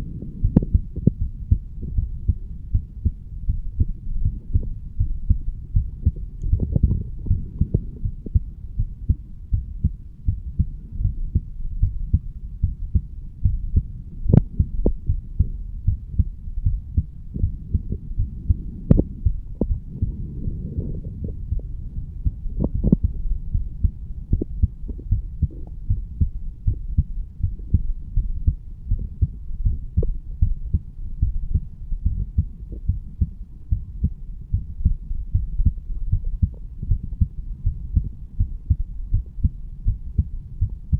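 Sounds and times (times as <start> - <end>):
heartbeat thumps: 0.0 - 40.9
sharp heart clicks: 0.0 - 40.9.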